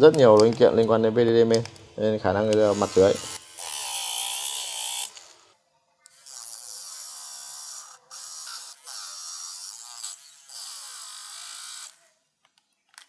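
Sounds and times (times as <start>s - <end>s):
rotary tool cutting metal: 0.0s - 12.0s.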